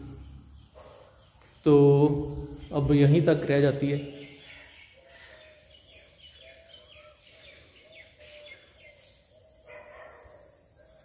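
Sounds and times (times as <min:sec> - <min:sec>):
birds chirping: 0:00.0 - 0:10.3
insects droning: 0:00.0 - 0:11.0.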